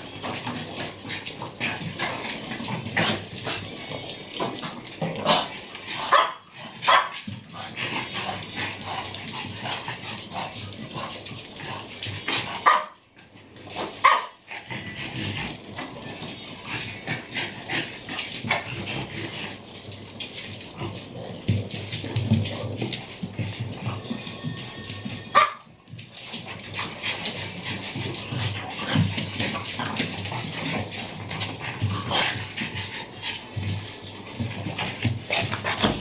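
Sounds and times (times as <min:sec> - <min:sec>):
dogs barking and yipping: 0:00.0 - 0:19.1, 0:23.1 - 0:36.0.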